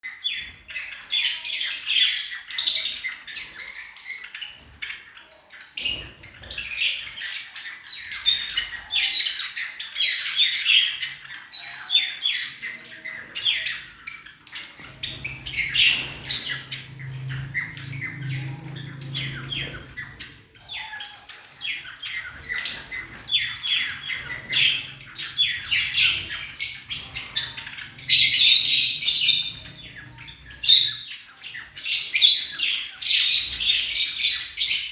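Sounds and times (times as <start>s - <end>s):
birds chirping and squawking: 0.0s - 34.9s.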